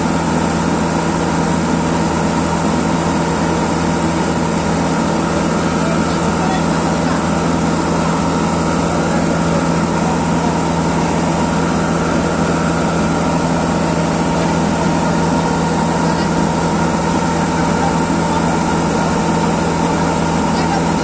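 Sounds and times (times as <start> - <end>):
combine harvester engine droning: 0.0 - 21.0
tractor idling: 0.0 - 21.0.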